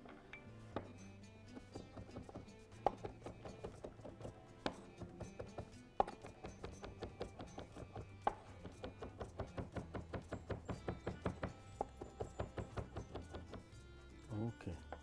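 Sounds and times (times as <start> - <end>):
knife chopping on wooden board: 1.6 - 13.8.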